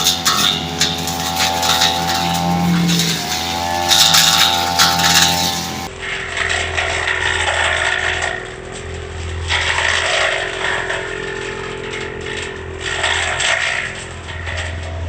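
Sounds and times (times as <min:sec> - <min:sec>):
brush cutter engine running: 0:00.0 - 0:15.0
cutter slashing undergrowth: 0:00.0 - 0:15.0.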